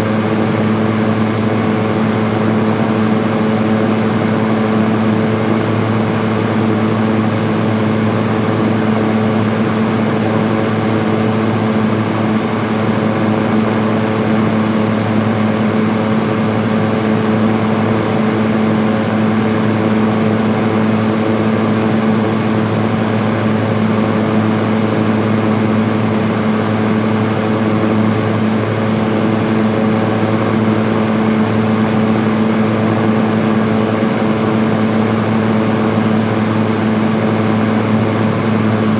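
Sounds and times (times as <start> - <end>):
fan air rushing: 0.0 - 38.9
fan motor hum: 0.0 - 38.9.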